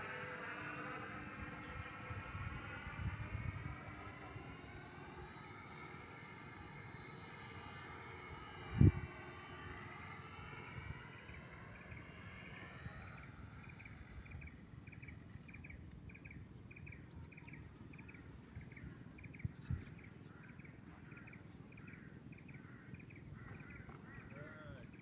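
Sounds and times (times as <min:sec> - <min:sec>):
model plane motor whine: 0:00.0 - 0:25.0
insect chirping: 0:00.1 - 0:25.0.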